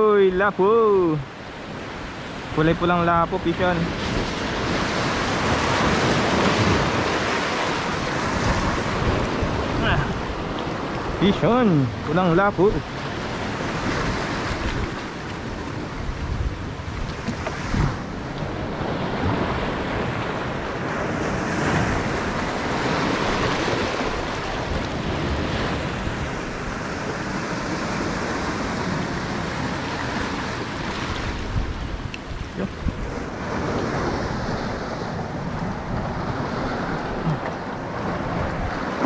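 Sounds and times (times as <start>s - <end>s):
waves breaking on rocks: 0.0s - 39.0s
wind buffeting microphone: 3.2s - 39.0s.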